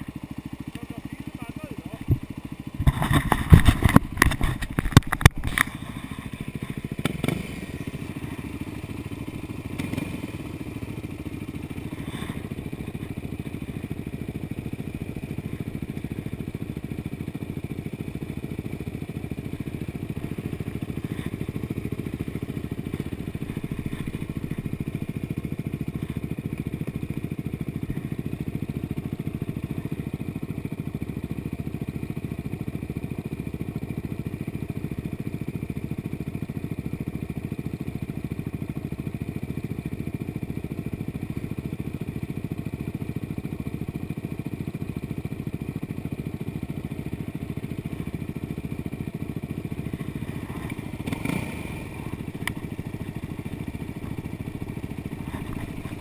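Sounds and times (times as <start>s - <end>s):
dirt bike engine idling: 0.0s - 56.0s.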